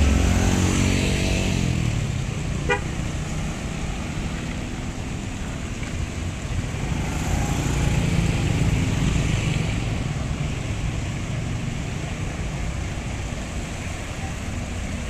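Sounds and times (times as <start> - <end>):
motorcycles passing close: 0.0 - 15.0
tyre hiss on wet road: 0.0 - 15.0.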